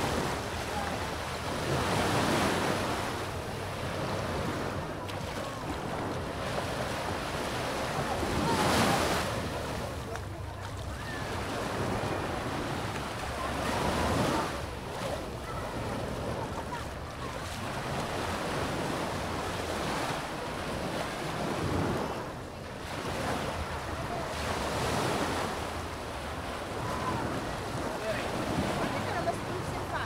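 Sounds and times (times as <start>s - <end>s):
waves on sandy beach: 0.0s - 30.0s.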